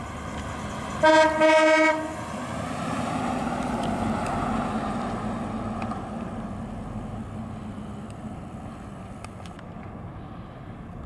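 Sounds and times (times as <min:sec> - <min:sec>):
car engine driving past: 0:00.0 - 0:09.2.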